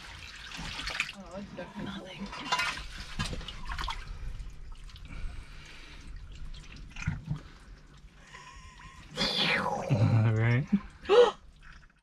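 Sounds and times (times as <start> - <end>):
water sloshing and dripping: 0.0 - 12.0.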